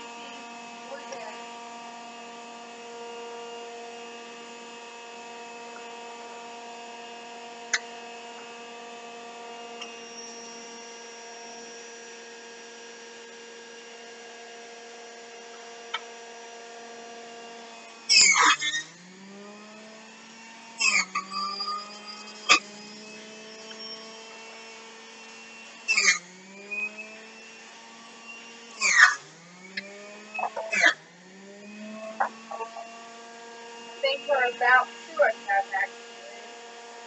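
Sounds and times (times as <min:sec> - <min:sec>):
juicer motor humming: 0:00.0 - 0:37.0.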